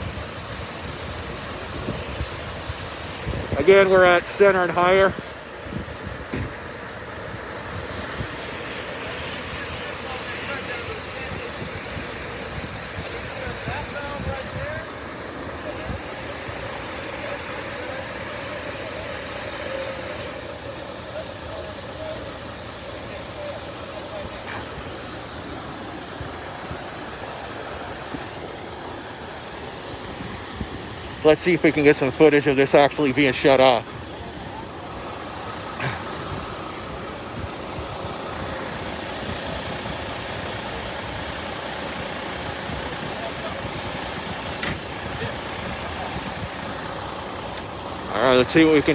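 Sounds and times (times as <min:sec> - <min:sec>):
water gushing from hydrant: 0:00.0 - 0:48.9.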